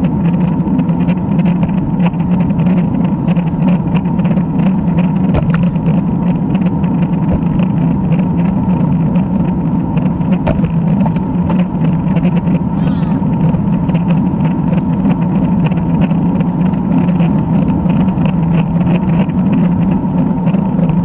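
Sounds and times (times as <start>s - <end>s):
bike tyres on road: 0.0s - 21.0s.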